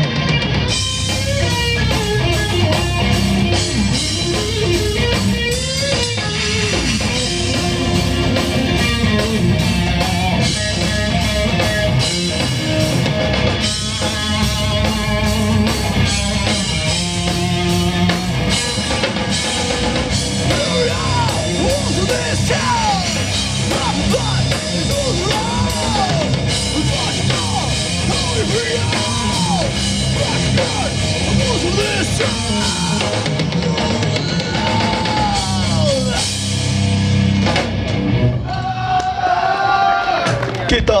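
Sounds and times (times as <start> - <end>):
electric guitar lead bending pitch: 0.0 - 38.5
live rock band playing: 0.0 - 38.9.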